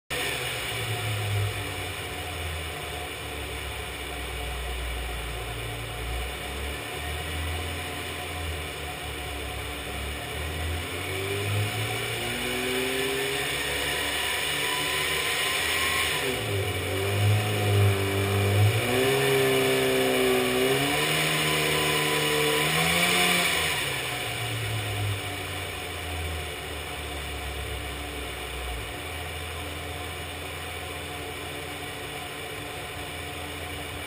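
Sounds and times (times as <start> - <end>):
car engine revving on rollers: 0.1 - 34.0.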